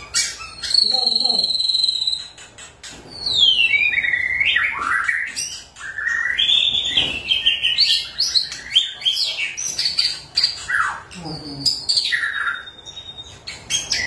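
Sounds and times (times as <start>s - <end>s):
bird singing whistled phrases: 0.0s - 2.4s, 3.1s - 14.0s.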